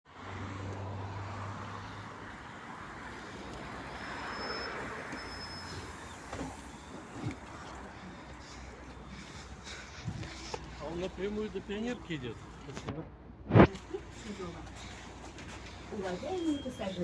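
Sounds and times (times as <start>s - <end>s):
bus engine hum: 0.1s - 17.0s
road noise: 0.1s - 17.0s.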